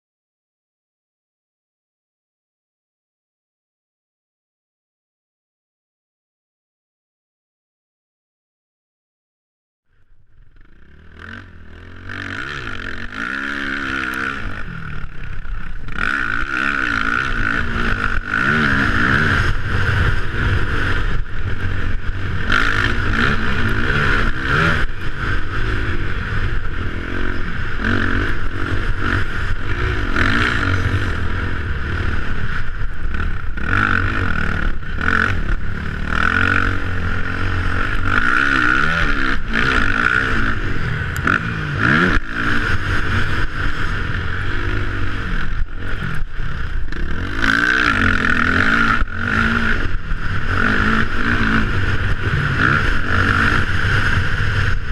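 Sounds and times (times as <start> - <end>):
motocross bike engine revving: 10.2 - 54.9.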